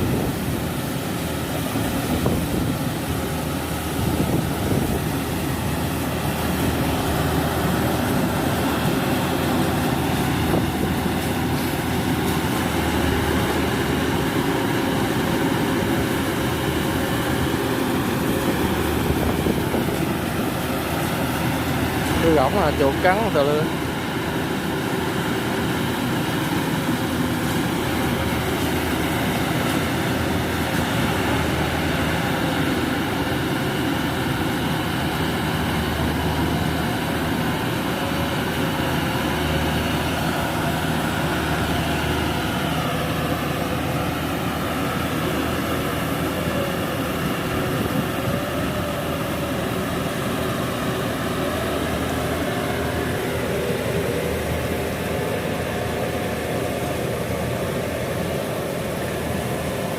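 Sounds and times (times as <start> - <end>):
combine harvester engine and machinery: 0.0 - 59.9.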